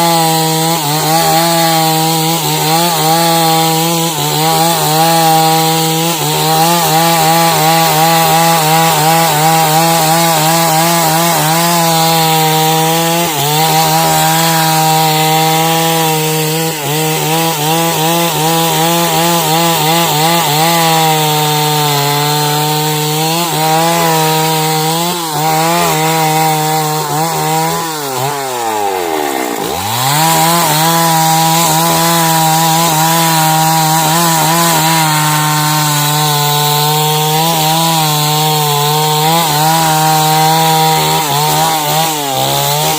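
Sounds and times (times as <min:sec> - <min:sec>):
chainsaw cutting through log: 0:00.0 - 0:42.9.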